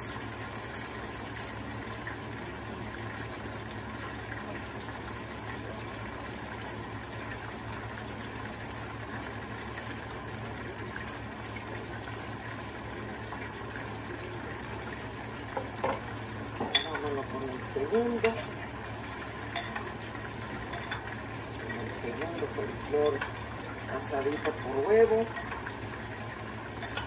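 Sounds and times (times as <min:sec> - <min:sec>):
food frying in hot oil: 0:00.0 - 0:27.0
low steady hum: 0:00.0 - 0:27.0.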